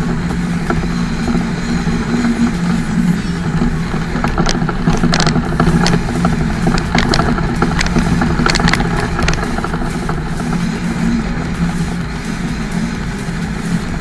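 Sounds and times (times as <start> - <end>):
diesel truck engine running: 0.0 - 14.0
sharp clicks and rattles: 0.0 - 14.0
wind and road noise: 0.0 - 14.0.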